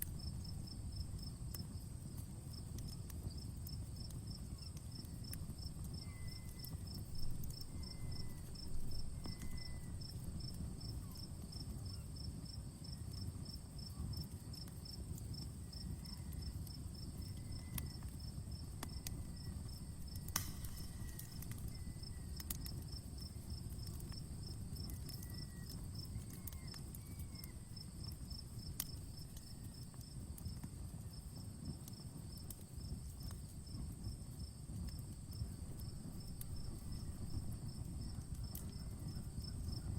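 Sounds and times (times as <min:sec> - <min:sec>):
crackling wood fire: 0:00.0 - 0:39.9
insects chirping: 0:00.0 - 0:39.9.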